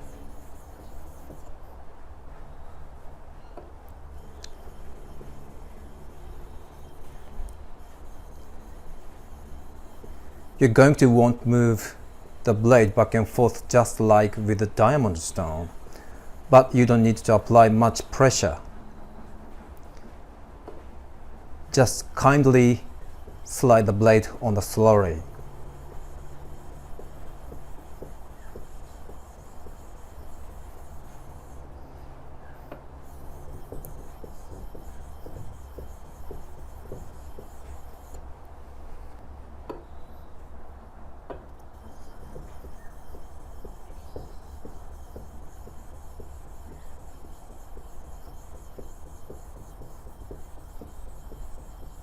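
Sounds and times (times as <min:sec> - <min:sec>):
chisel rubbing on wet stone: 0:00.0 - 0:01.6, 0:04.2 - 0:18.6, 0:21.7 - 0:31.8, 0:32.5 - 0:38.2, 0:41.7 - 0:52.0.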